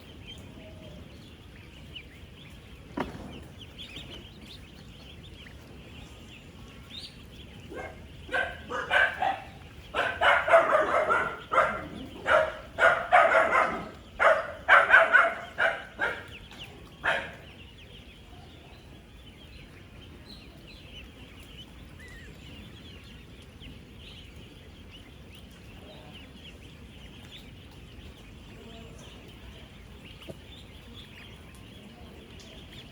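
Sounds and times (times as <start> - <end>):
ducklings peeping: 0.0 - 32.9.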